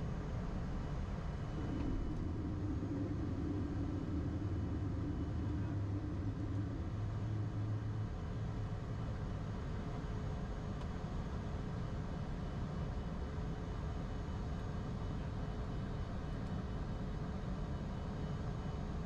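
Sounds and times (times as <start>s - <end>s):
cockpit engine and airflow rumble: 0.0s - 19.0s
faint droning hum: 0.0s - 19.0s.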